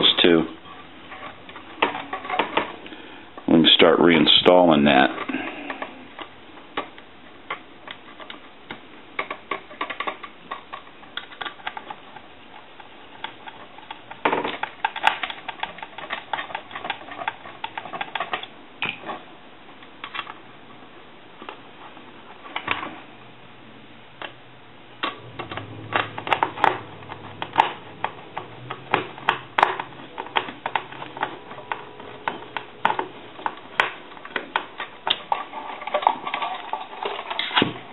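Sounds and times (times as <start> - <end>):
plastic parts clicking and scraping: 0.0 - 20.4, 21.4 - 23.1, 25.0 - 37.9.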